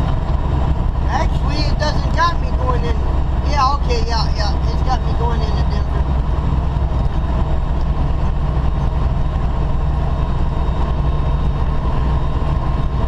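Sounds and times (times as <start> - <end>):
road noise: 0.0 - 13.0
truck diesel engine drone: 0.0 - 13.0.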